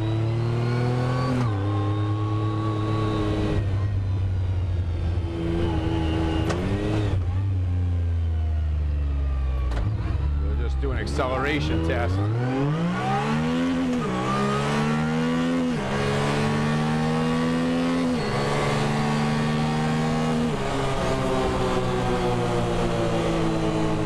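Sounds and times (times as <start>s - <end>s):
engine accelerating with upshifts: 0.0s - 24.0s.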